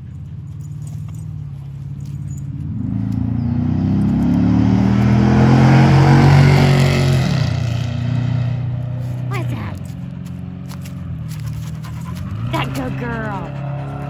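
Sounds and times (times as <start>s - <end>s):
vehicle driving past: 0.6s - 14.0s.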